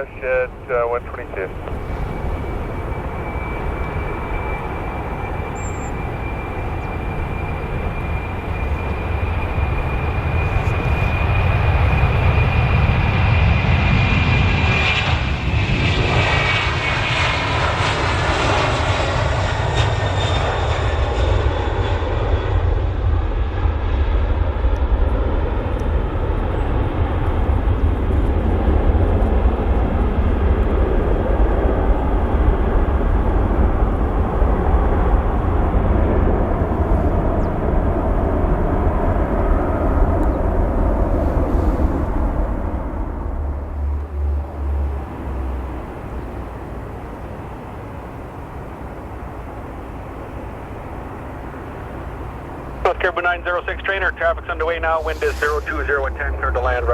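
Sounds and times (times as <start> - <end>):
heavy low rumble: 0.0 - 21.5, 22.1 - 56.9
jet engine whine: 0.0 - 56.9.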